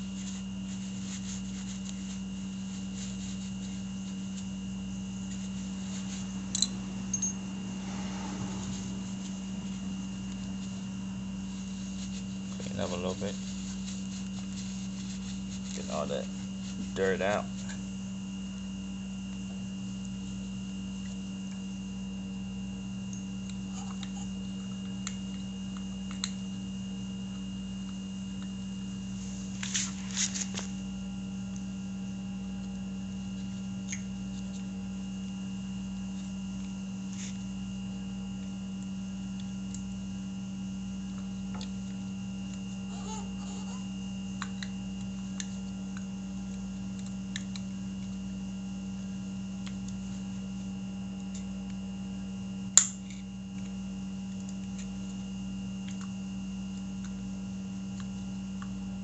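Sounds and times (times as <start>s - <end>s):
faint high whine: 0.0s - 59.0s
low electrical hum: 0.0s - 59.0s.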